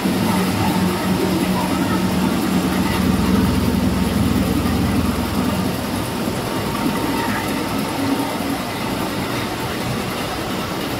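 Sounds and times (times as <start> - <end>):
low hum: 0.0 - 9.8
machinery running: 0.0 - 10.9.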